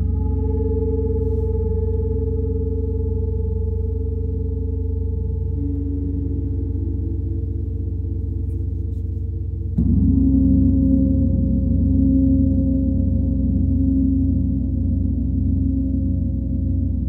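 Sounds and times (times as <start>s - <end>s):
droning gongs: 0.0s - 17.0s.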